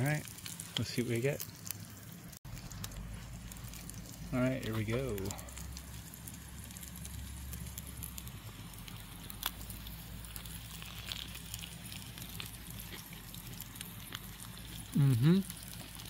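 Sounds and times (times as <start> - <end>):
fire log crackling: 0.0 - 16.0
sausages sizzling in skillet: 0.0 - 16.0.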